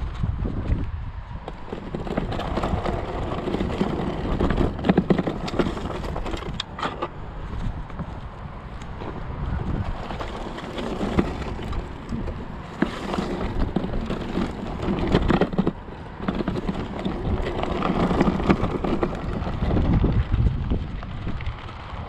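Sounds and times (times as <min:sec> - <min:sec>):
scooter rattling over bumps: 0:00.0 - 0:22.0
tyres crunching over dirt: 0:00.0 - 0:22.0
wind buffeting microphone: 0:00.0 - 0:22.0.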